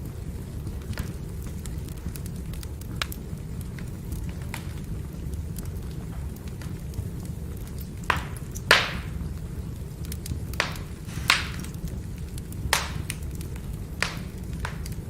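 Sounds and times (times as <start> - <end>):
firewood burning and crackling: 0.0 - 15.0.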